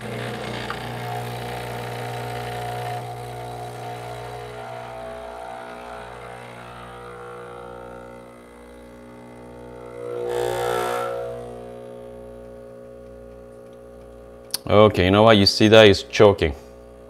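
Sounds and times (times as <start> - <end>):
espresso machine pump humming: 0.0 - 14.7
hiss with wavering whine: 0.7 - 14.4.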